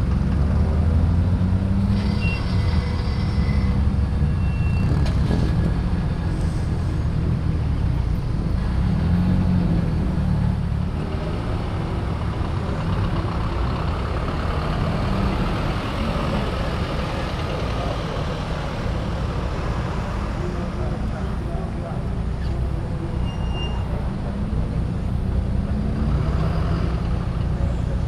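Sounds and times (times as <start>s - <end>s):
car engines rumbling: 0.0s - 28.0s.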